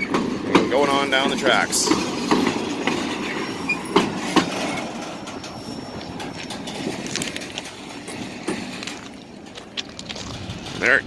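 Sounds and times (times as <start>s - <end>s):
freight train wheels clicking: 0.0s - 11.0s
sharp clacks: 0.1s - 10.9s.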